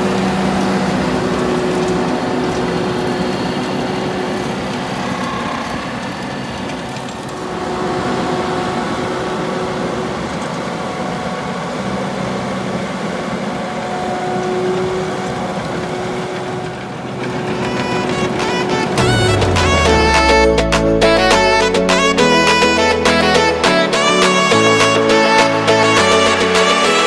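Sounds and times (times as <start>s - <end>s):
tractor engine droning: 0.0s - 23.5s.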